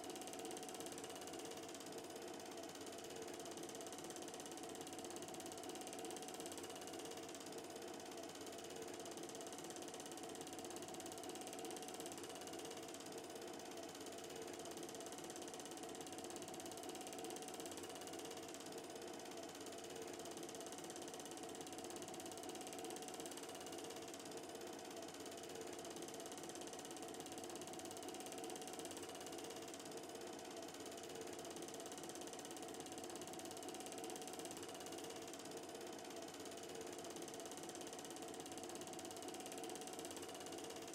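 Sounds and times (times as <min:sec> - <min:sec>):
film projector running: 0:00.0 - 0:40.9.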